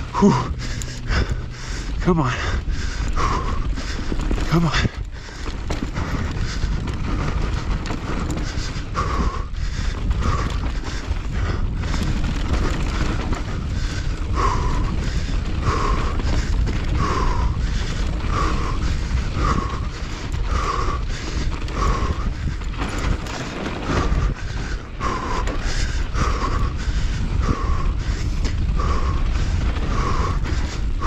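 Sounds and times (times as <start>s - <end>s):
bike rattling: 0.0s - 31.0s
bike tyres on dirt: 0.0s - 31.0s
rider breathing hard: 0.0s - 31.0s
steady rush of noise: 0.0s - 31.0s.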